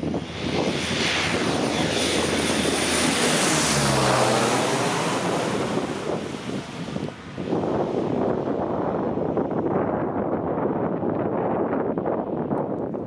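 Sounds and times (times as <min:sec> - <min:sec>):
turboprop aircraft passing: 0:00.0 - 0:12.5.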